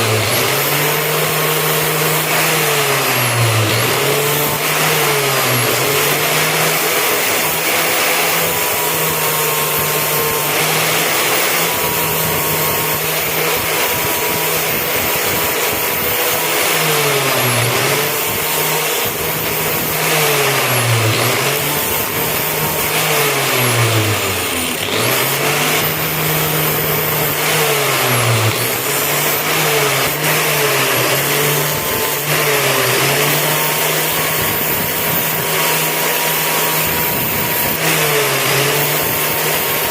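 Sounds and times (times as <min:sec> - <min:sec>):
electric grinder motor: 0:00.0 - 0:39.9.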